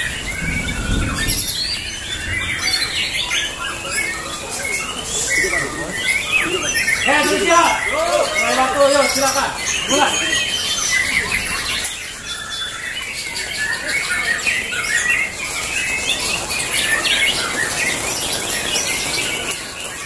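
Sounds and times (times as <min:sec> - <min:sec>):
songbirds whistling and chirping: 0:00.0 - 0:20.0.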